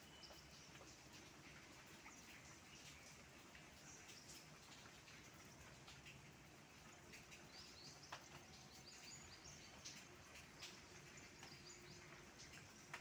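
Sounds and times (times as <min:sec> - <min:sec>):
small birds chirping: 0:00.0 - 0:06.0, 0:06.8 - 0:13.0
rain dripping on leaves: 0:00.0 - 0:13.0.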